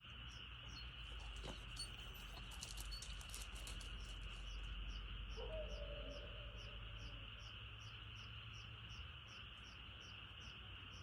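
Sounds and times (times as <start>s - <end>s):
frogs and crickets trilling: 0.0s - 11.0s.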